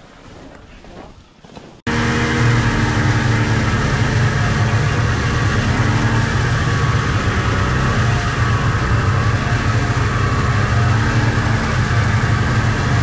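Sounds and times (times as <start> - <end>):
snowmobile engine running: 1.9 - 13.0.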